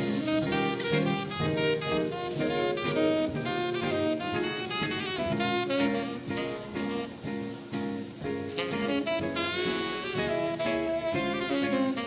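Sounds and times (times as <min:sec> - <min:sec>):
tenor saxophone: 0:00.0 - 0:07.5, 0:08.6 - 0:12.0
guitar: 0:00.0 - 0:12.0
swing jazz combo playing: 0:00.0 - 0:12.0.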